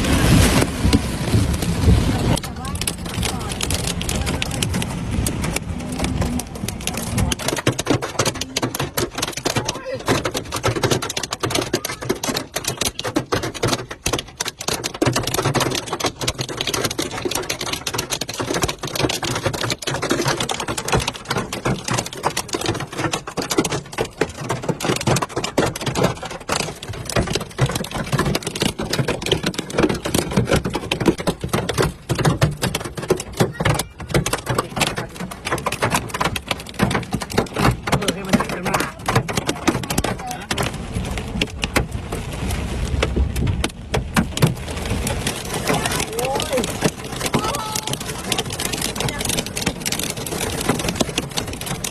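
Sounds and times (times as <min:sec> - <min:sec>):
hail pelting a car: 0:00.0 - 0:51.9.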